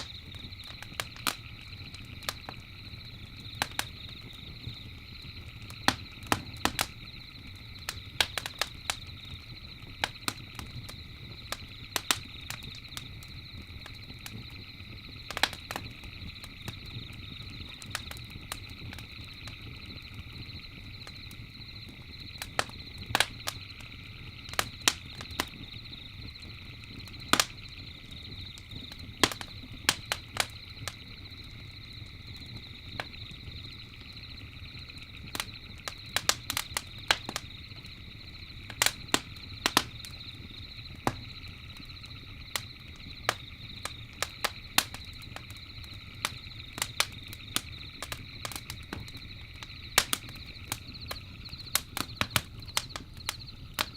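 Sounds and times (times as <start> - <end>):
burning wood popping: 0.0 - 53.9
campfire crackling: 0.0 - 53.9.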